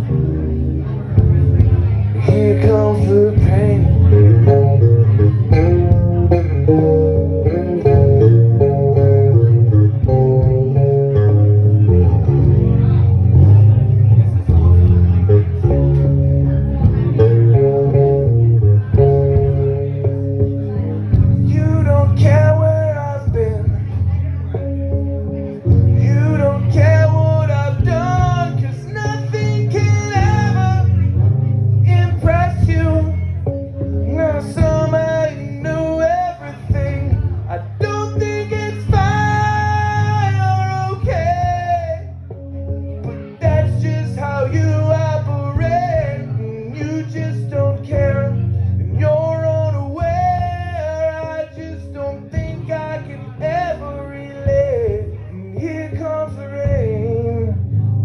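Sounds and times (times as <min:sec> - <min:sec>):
guitar: 0:00.0 - 0:58.0
high wordless vocal melody: 0:00.0 - 0:58.0
looped bass line: 0:00.0 - 0:58.0
man singing: 0:00.0 - 0:58.0.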